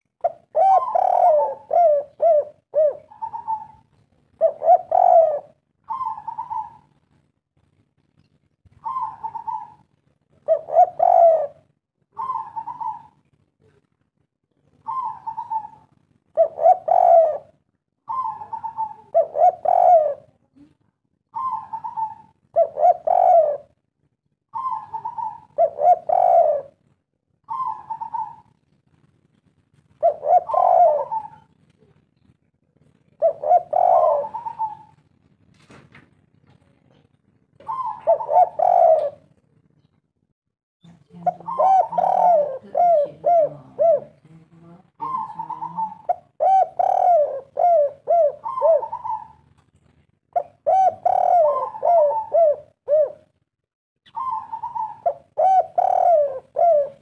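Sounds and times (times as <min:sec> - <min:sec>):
dove cooing: 0:00.0 - 0:07.0, 0:08.8 - 0:13.8, 0:14.7 - 0:20.5, 0:21.3 - 0:23.8, 0:24.5 - 0:28.6, 0:29.9 - 0:32.0, 0:32.8 - 0:35.2, 0:36.9 - 0:39.4, 0:41.1 - 0:49.6, 0:50.3 - 0:53.4, 0:54.1 - 0:57.0.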